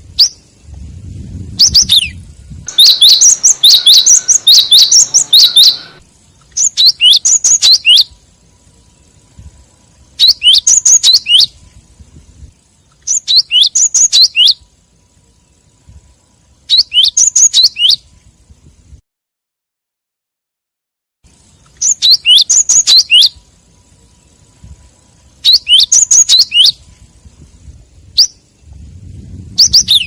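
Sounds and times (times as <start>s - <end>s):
bird chirps: 0.0s - 11.9s, 12.6s - 18.2s, 21.3s - 27.0s, 28.0s - 30.0s.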